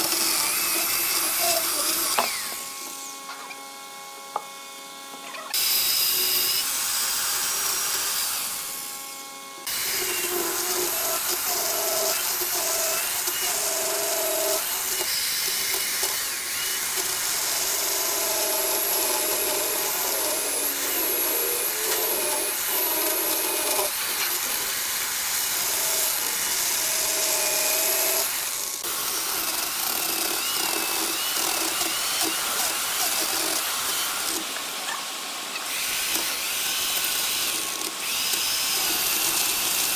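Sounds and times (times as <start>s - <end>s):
electric chainsaw cutting wood: 0.0s - 39.9s.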